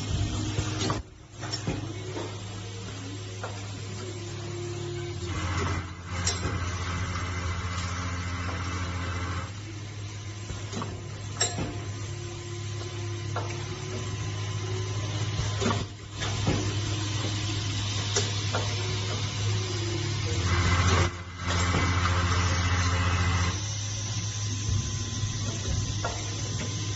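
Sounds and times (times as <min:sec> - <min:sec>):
welding machine humming: 0:00.0 - 0:26.9.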